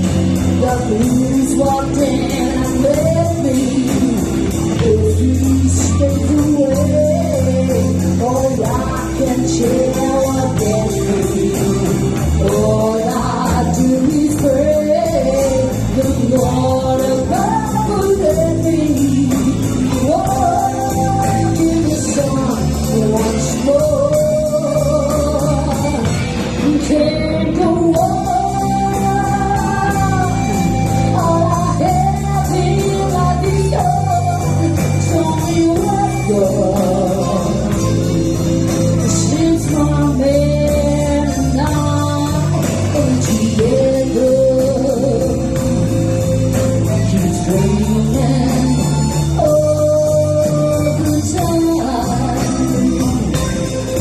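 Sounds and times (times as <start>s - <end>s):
electric guitar: 0.0s - 54.0s
live blues band playing: 0.0s - 54.0s
person singing: 0.0s - 54.0s.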